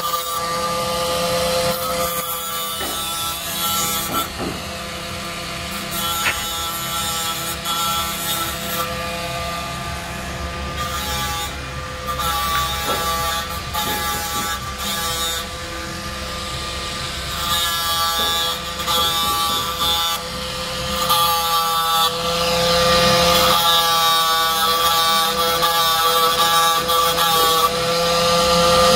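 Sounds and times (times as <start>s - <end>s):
angle grinder whining: 0.0s - 28.9s.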